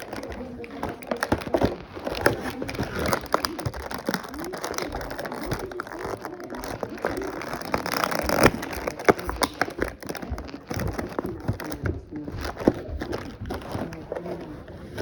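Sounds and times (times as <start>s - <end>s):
plastic packaging crackling: 0.0s - 15.0s.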